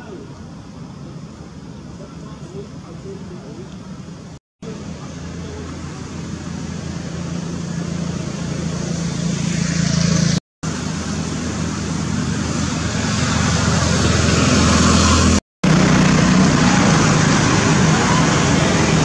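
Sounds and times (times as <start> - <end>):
passing traffic engine drone: 0.0 - 19.0
road noise: 0.0 - 19.0.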